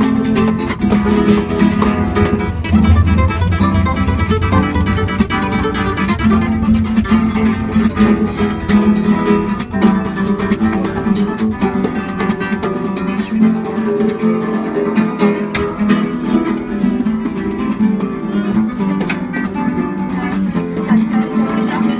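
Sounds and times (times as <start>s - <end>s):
flamenco guitar strumming: 0.0s - 21.9s.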